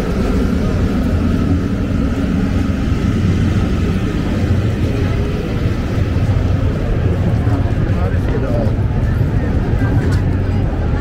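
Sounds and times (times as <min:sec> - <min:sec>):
low rumble of outdoor noise: 0:00.0 - 0:11.0.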